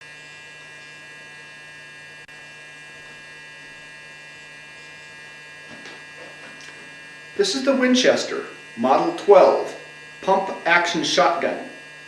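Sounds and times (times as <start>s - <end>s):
electrical hum and buzz: 0.0s - 12.0s.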